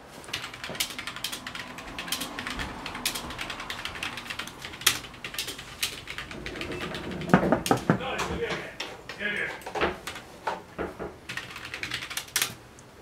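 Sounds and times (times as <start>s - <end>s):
computer keyboard typing: 0.2s - 10.3s, 11.3s - 12.6s.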